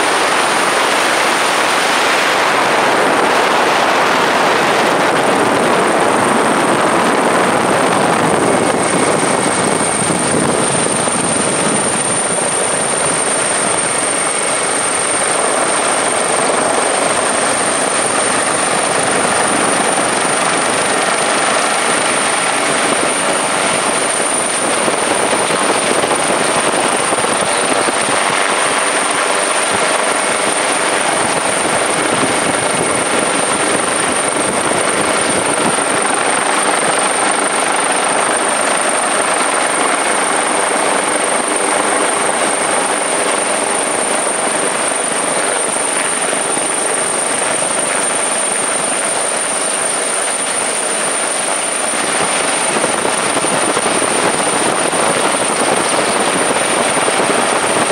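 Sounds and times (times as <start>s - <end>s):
helicopter rushing noise: 0.0s - 57.9s
high steady whine: 0.0s - 57.9s.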